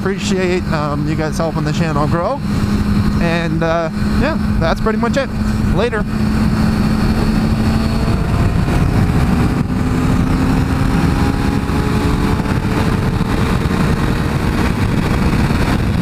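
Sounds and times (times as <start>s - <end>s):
motorcycle engine accelerating: 0.0s - 16.0s
wind rushing on microphone: 0.0s - 16.0s.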